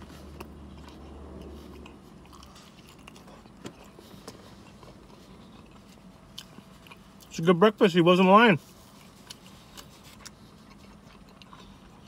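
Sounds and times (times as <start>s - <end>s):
chewing food: 0.0s - 7.6s, 8.6s - 12.0s.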